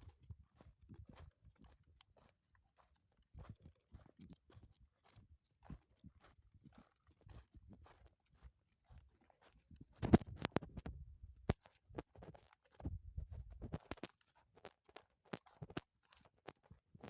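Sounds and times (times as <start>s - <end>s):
hooves on stony ground: 0.0s - 17.0s.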